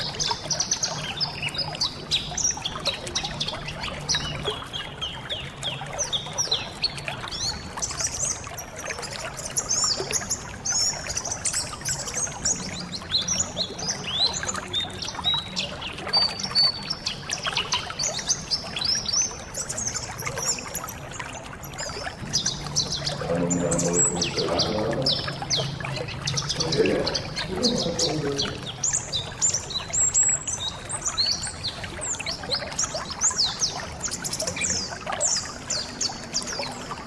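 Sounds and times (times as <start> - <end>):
birds twittering: 0.0 - 37.0
trickling splashing water: 0.0 - 37.0.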